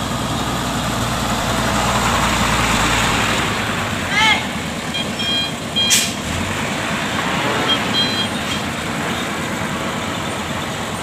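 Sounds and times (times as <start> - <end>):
heavy truck engines running: 0.0 - 11.0
passing road traffic: 0.0 - 11.0.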